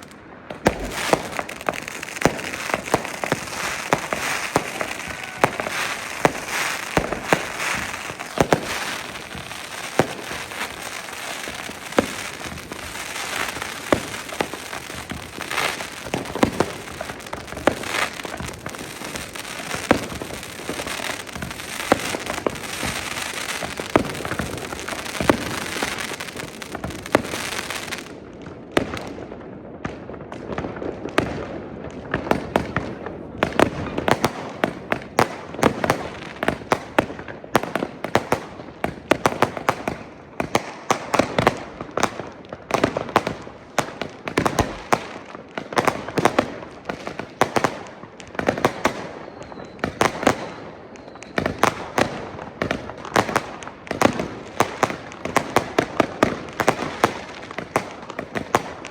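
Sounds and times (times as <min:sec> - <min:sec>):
firecracker crackle: 0:00.0 - 0:58.9
fireworks bangs and pops: 0:00.0 - 0:58.9.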